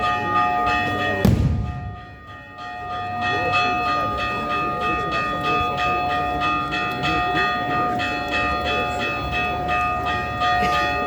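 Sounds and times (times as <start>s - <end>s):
church bell ringing: 0.0s - 11.0s.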